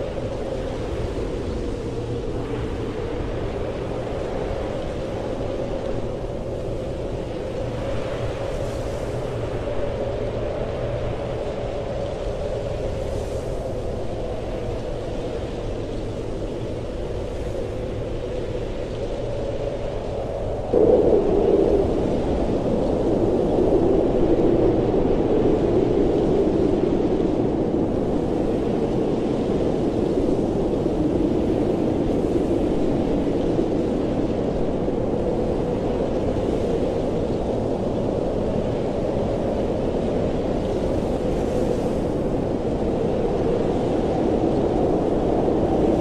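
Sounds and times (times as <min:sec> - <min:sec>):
blizzard wind rushing: 0:00.0 - 0:46.0.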